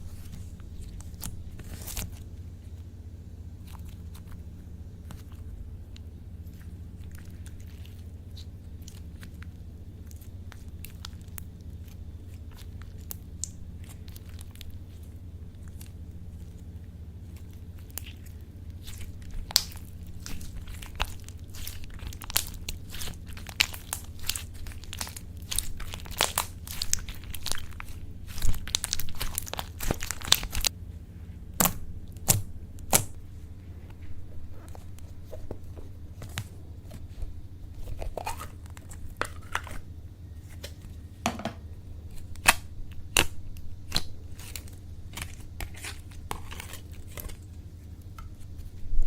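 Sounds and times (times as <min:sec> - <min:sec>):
slime squished by hand: 0:00.0 - 0:02.8, 0:03.5 - 0:30.7, 0:31.5 - 0:41.1, 0:42.0 - 0:48.8
steady low hum: 0:00.0 - 0:49.0.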